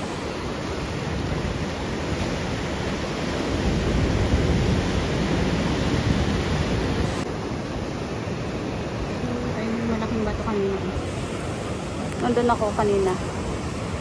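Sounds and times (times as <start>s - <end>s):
sea waves washing against rocks: 0.0s - 14.0s.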